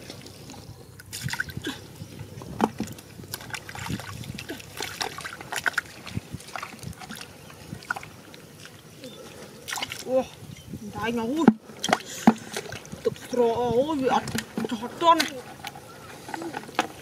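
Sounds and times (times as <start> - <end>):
splashing in shallow muddy water: 0.0 - 17.0.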